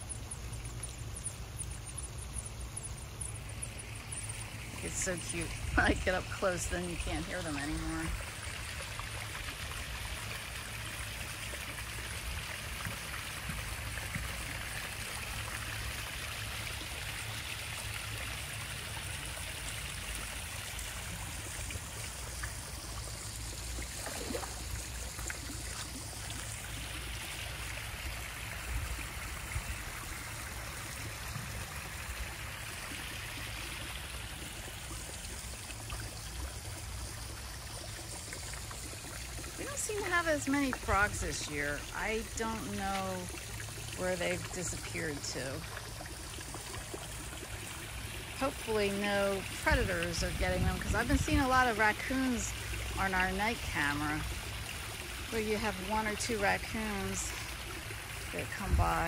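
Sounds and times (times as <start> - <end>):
waterfall trickling and splashing: 0.0 - 59.0.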